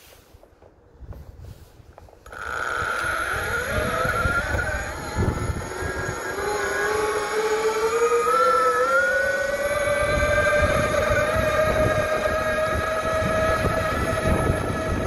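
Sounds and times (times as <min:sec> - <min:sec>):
low rumble from wheels: 0:01.0 - 0:15.0
electric motor whine: 0:02.2 - 0:15.0.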